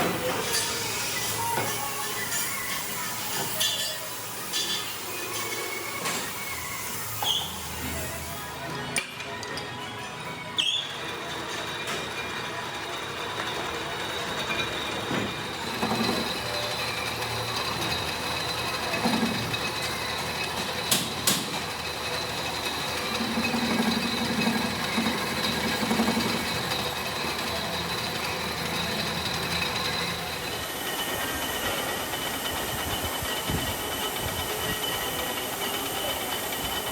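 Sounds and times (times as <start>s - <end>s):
workshop machinery running: 0.0s - 36.9s.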